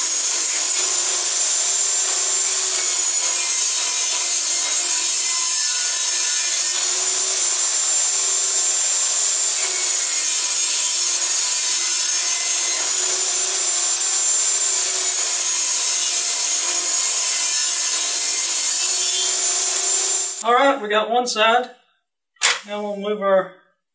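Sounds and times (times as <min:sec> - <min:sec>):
high saw blade whine: 0:00.0 - 0:20.4
table saw ripping wood: 0:00.0 - 0:20.4.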